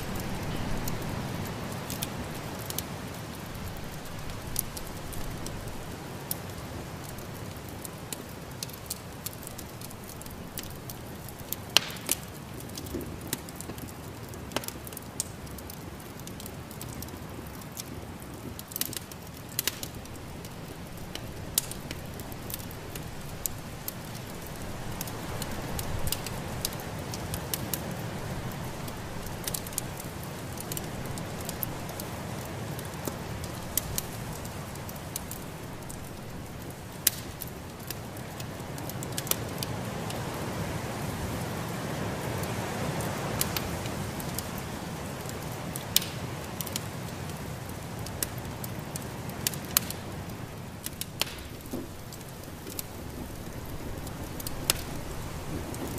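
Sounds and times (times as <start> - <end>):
fire pops and snaps: 0.0 - 41.0, 42.4 - 55.9
wood fire crackling: 0.0 - 55.9.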